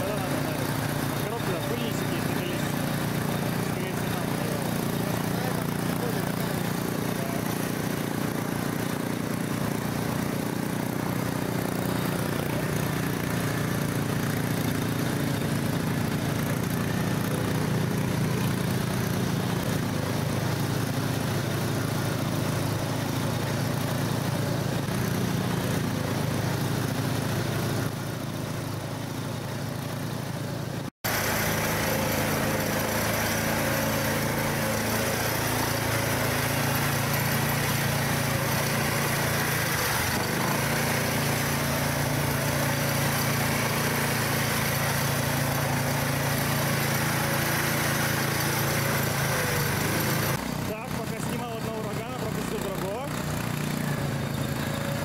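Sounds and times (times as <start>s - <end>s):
small engine running under load: 0.0s - 55.0s.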